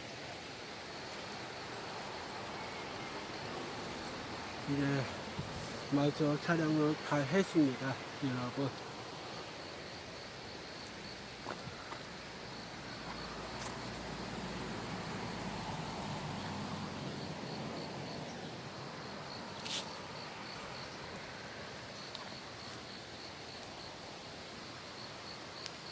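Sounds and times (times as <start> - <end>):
insects chirping: 0.0 - 25.9
steady background hiss: 0.0 - 25.9.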